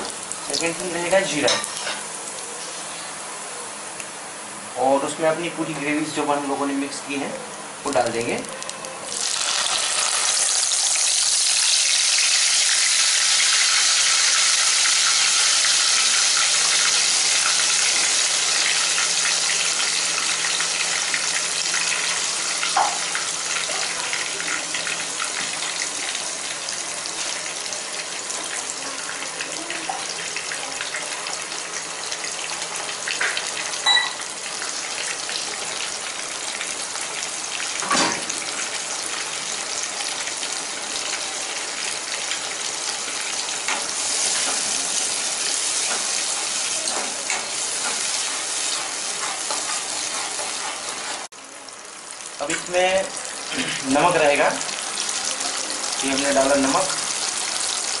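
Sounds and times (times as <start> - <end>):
gravy sizzling in hot oil: 0.0 - 58.0.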